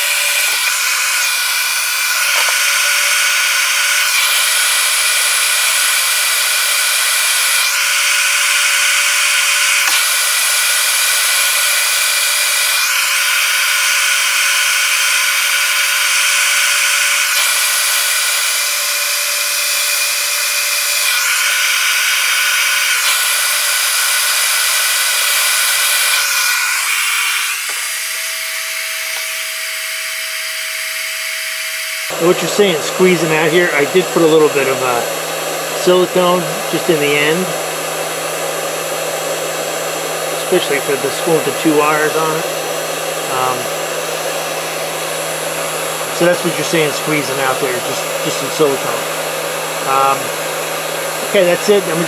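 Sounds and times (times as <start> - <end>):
heat gun fan whining: 0.0 - 52.0.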